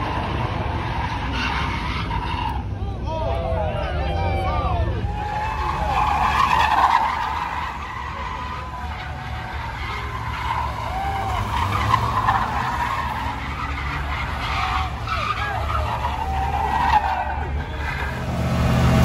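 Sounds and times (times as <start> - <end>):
car tyres squealing: 0.0 - 19.0.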